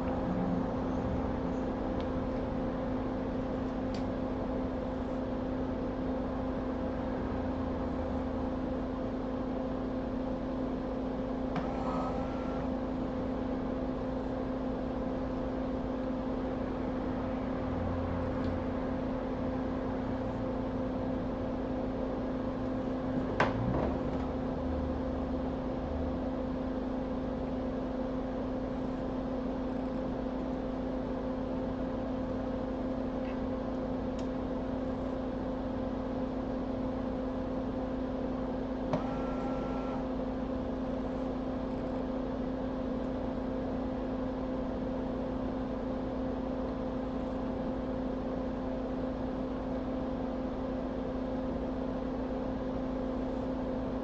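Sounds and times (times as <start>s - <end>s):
electric fan motor hum: 0.0s - 54.0s.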